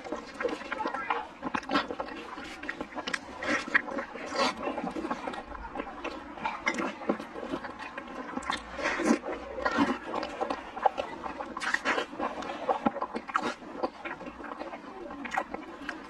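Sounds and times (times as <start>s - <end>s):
sticky squelches of tearing meat: 0.0s - 16.0s
wet chewing and lip-smacking: 0.0s - 16.0s.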